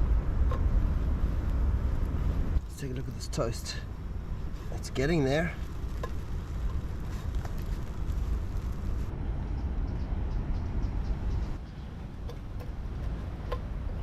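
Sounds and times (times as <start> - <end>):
wind and sea rumble: 0.0 - 14.0.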